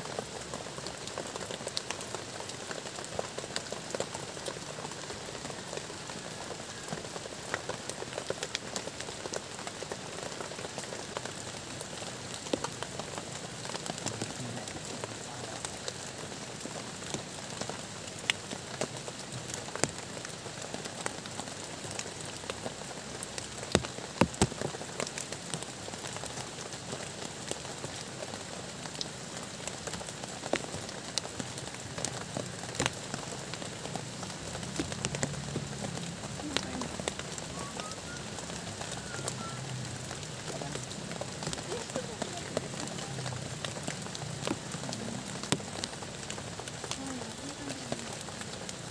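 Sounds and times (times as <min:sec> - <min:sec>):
rain on plastic tarp: 0:00.0 - 0:48.9.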